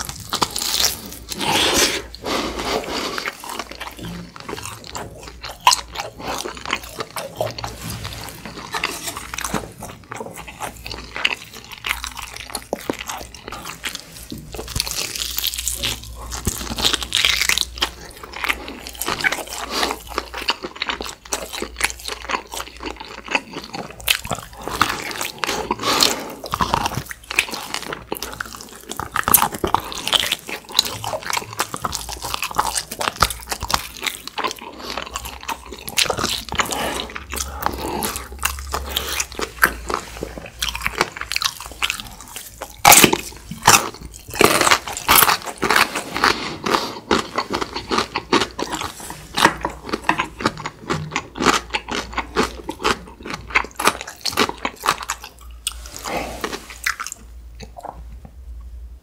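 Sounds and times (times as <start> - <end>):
person chewing meat: 0.0 - 58.7.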